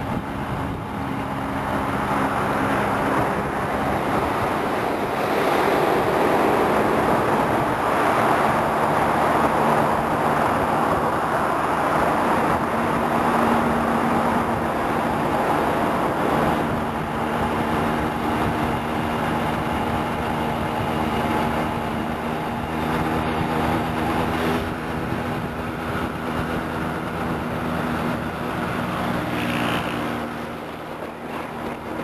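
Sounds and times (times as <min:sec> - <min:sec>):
car engine hum: 0:00.0 - 0:32.0
tyre and road noise: 0:00.0 - 0:32.0.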